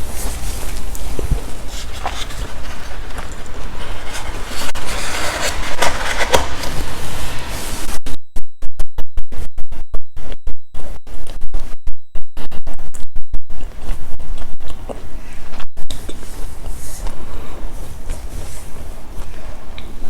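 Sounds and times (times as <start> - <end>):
distorted microphone crackling: 0.0 - 20.0.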